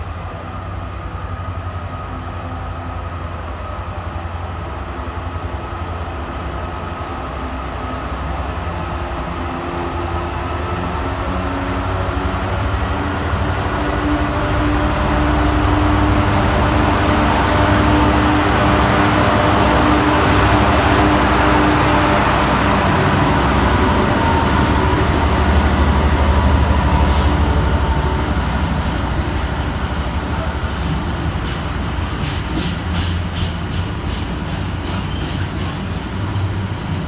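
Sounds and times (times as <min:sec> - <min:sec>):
freight train rumbling: 0:00.0 - 0:37.0.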